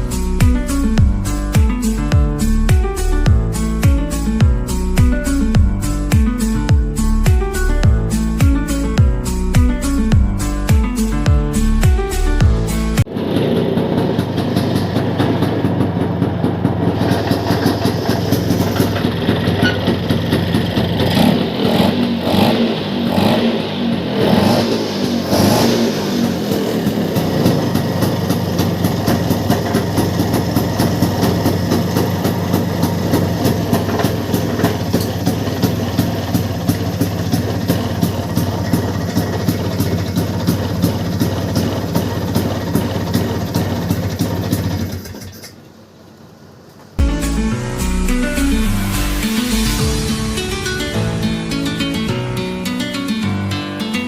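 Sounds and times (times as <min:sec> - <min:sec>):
scooter engine idling and revving: 0:00.0 - 0:46.6.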